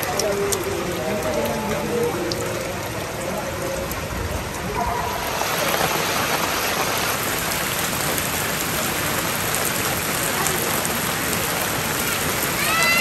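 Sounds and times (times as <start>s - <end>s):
heavy rain splashing into water: 0.0s - 13.0s.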